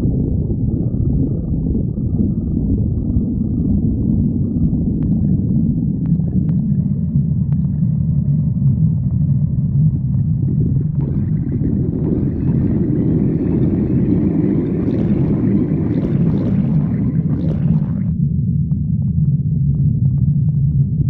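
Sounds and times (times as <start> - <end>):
stomach growling: 0.0 - 18.2
low rumble: 0.0 - 21.0.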